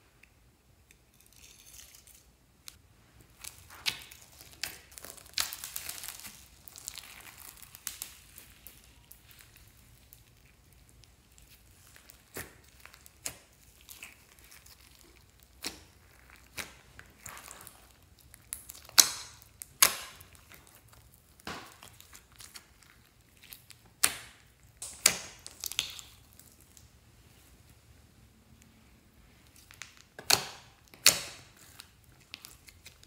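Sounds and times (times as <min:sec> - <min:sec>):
slime popping and crackling: 0:02.7 - 0:27.0, 0:29.4 - 0:33.0.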